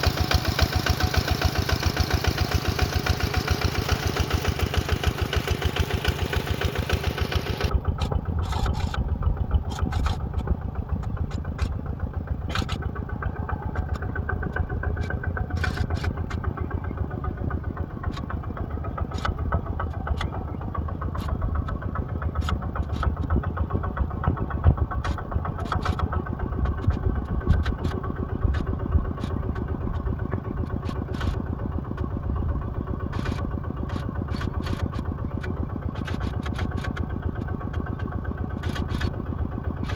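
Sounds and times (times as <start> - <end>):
sharp clicks and knocks: 0.0 - 17.0, 17.8 - 32.1, 33.0 - 39.9
heavy machine engine running: 0.0 - 39.9.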